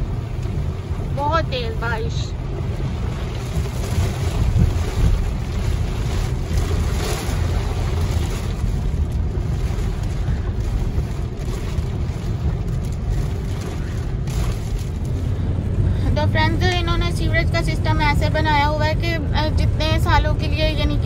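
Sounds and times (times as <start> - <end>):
heavy rain hissing on car: 0.0 - 21.0
tyres rumbling on wet road: 0.0 - 21.0.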